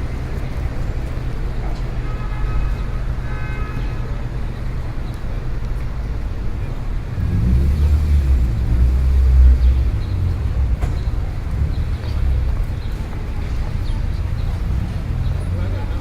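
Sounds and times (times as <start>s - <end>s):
city street traffic rumble: 0.0s - 16.0s
heavy vehicle engine rumble: 0.0s - 16.0s.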